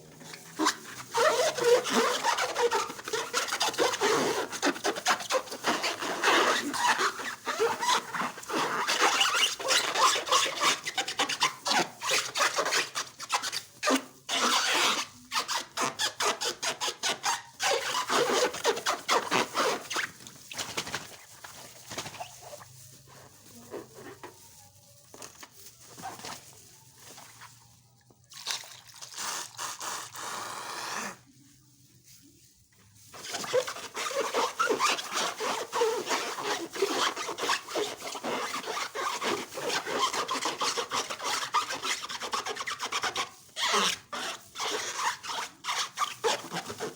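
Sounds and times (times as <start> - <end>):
balloons rubbing and squeaking: 0.0 - 27.9, 29.0 - 31.8, 32.5 - 46.9.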